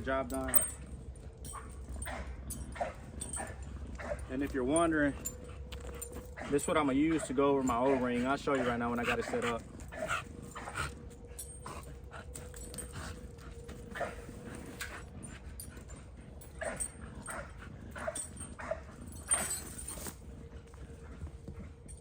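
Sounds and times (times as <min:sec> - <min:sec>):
dogs yipping and barking: 0:00.3 - 0:20.8.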